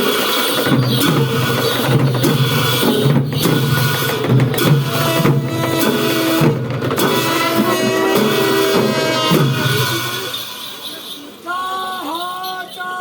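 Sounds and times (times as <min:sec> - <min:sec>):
drums beating: 0:00.0 - 0:12.5
held pitched tones: 0:00.5 - 0:13.0.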